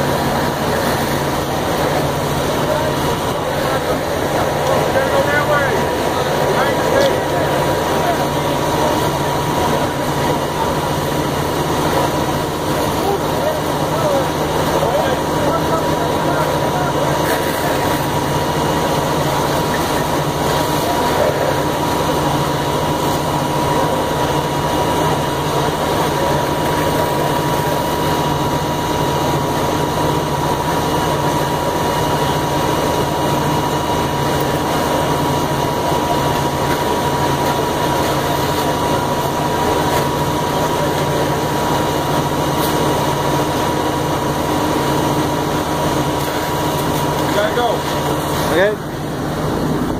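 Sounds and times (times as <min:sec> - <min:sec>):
diesel engine drone: 0:00.0 - 0:49.9.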